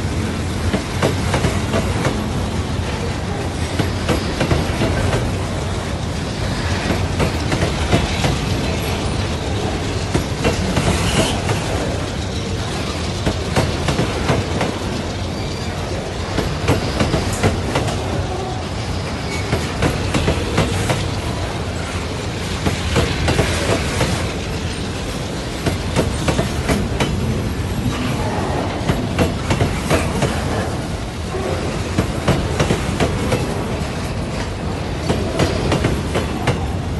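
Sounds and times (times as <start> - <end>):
freight train rumbling past: 0.0 - 36.9
wheels clickety-clack over rail joints: 0.0 - 36.9.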